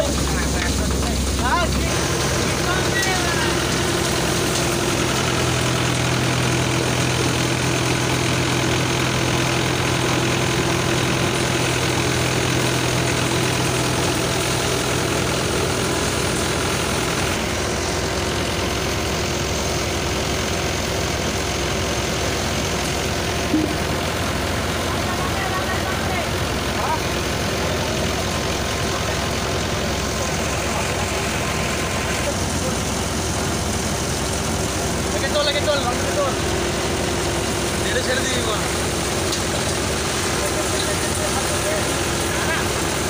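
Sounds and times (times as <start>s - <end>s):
tractor diesel engine: 0.0s - 43.0s.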